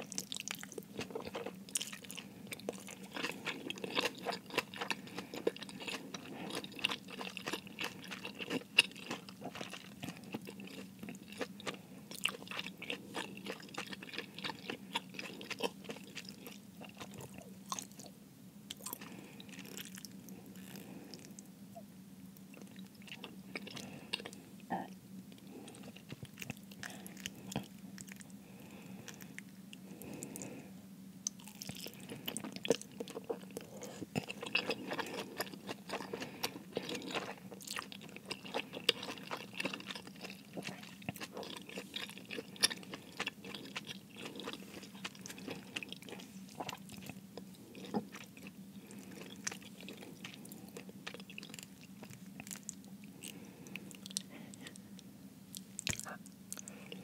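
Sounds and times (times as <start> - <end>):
chewing dumplings: 0.0 - 21.5, 22.4 - 30.6, 31.2 - 57.0
steady low hum: 0.0 - 57.0.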